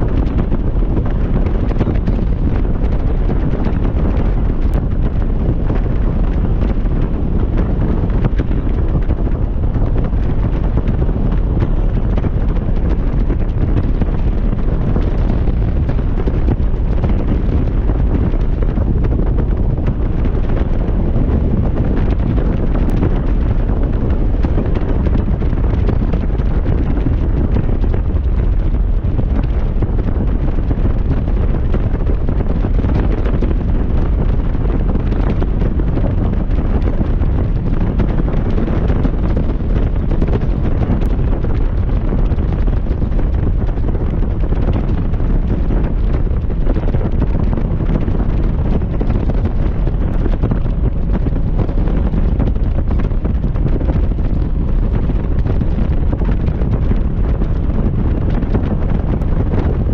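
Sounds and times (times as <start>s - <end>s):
motorcycle engine and road noise: 0.0s - 59.9s
wind buffeting microphone: 0.0s - 59.9s.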